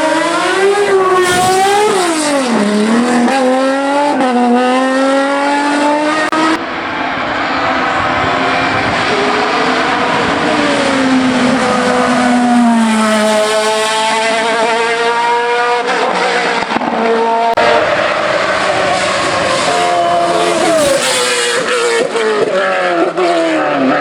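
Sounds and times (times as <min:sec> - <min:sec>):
racing car engine at full throttle: 0:00.0 - 0:24.0.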